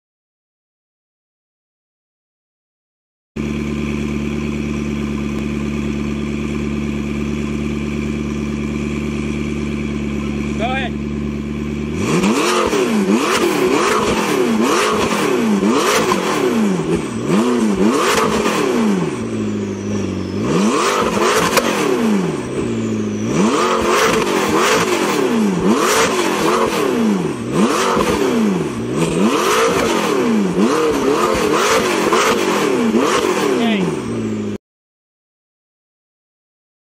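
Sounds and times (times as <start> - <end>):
car engine revving: 3.4 - 34.6.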